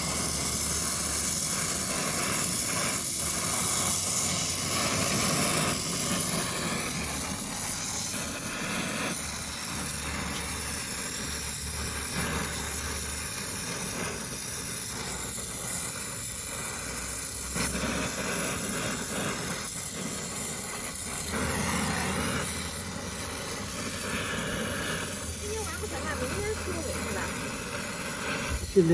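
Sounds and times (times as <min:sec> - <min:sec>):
torch flame hissing: 0:00.0 - 0:28.9.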